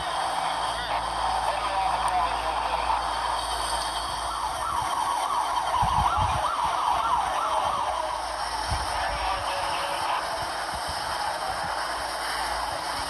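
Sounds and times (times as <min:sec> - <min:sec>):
siren yelping: 0:00.0 - 0:12.9
radio static hiss: 0:00.0 - 0:13.0.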